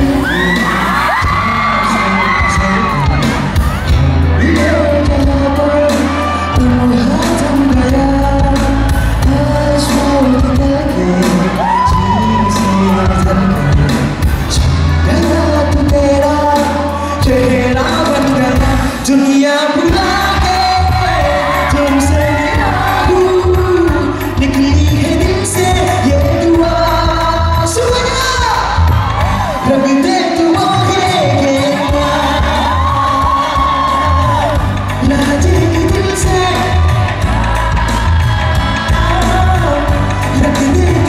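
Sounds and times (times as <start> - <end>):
bass line: 0.0 - 41.0
drums: 0.0 - 41.0
man singing through pa: 0.0 - 41.0.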